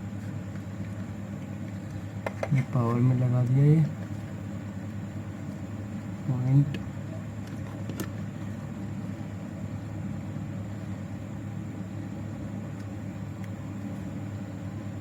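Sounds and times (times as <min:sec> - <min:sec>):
faint high whine: 0:00.0 - 0:15.0
low hum and rumble: 0:00.0 - 0:15.0.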